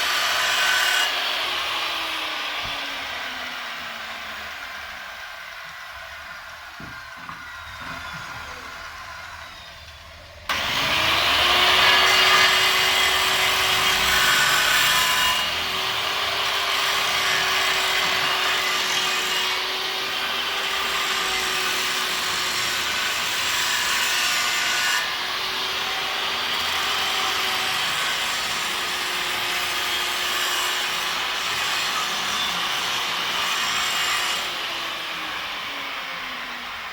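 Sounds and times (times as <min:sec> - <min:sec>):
angle grinder whining and grinding: 0:00.0 - 0:36.9.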